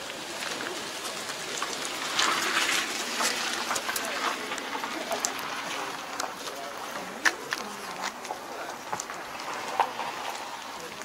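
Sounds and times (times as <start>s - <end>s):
faint background voices: 0.0s - 11.0s
footsteps crunching on gravel: 0.0s - 11.0s.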